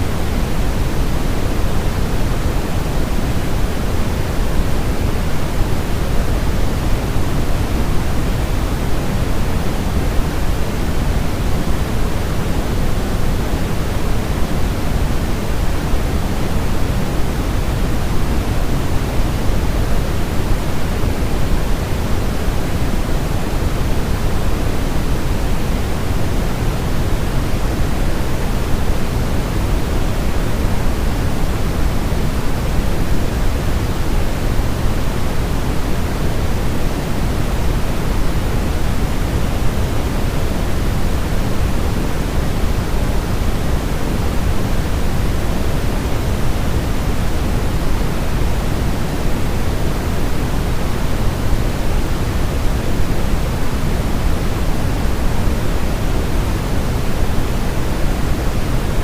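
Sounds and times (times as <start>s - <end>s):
deep white noise hiss: 0.0s - 59.0s.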